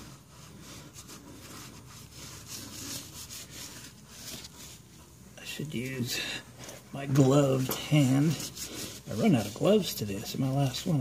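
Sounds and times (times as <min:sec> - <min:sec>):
towel wiping wet metal: 0:00.0 - 0:06.2, 0:06.8 - 0:11.0.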